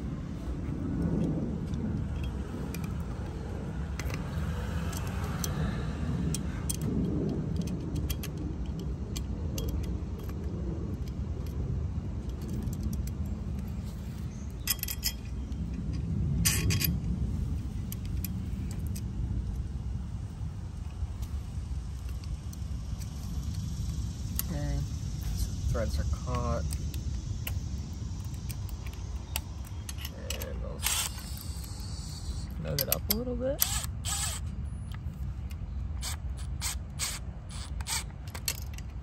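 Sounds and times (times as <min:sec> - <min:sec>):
steady low rumble: 0:00.0 - 0:39.0
metal band and bolts clicking: 0:01.0 - 0:17.2, 0:20.8 - 0:39.0.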